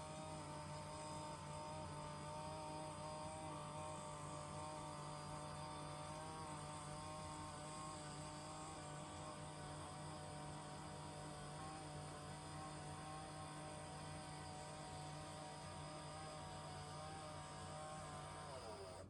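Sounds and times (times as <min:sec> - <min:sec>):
desk lift motors humming: 0:00.0 - 0:19.0.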